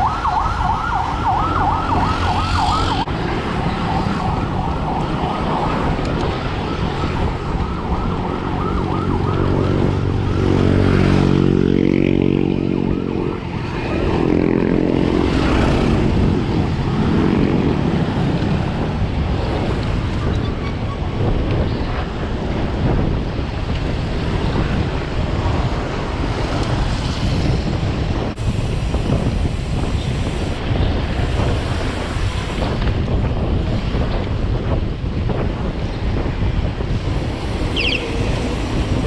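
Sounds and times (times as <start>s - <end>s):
wind on microphone: 0.0s - 39.0s.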